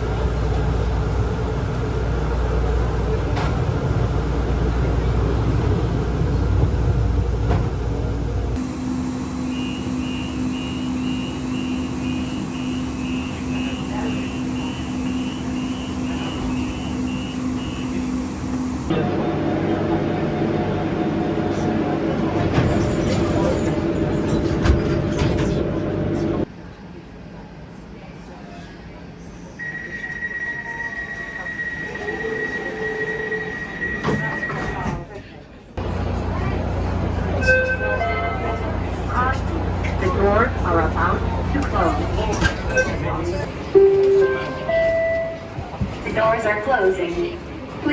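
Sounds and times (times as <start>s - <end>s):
busier train sound: 0.0s - 47.9s
low train hum: 0.0s - 47.9s.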